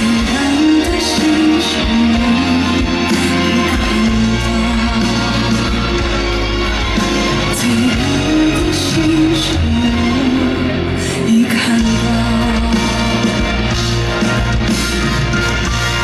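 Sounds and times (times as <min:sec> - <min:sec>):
woman singing: 0:00.0 - 0:06.4, 0:07.4 - 0:14.0
band accompaniment: 0:00.0 - 0:16.0.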